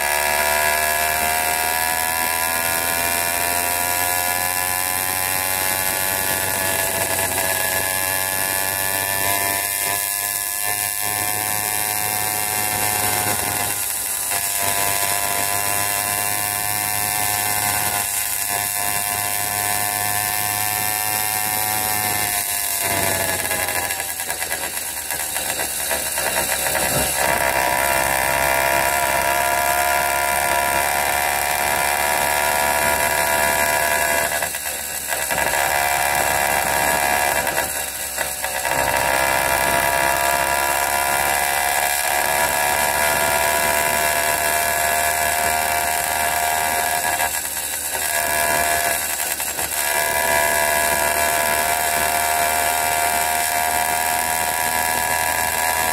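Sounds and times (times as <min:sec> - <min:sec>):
two-stroke bicycle engine buzzing: 0:00.0 - 0:55.9.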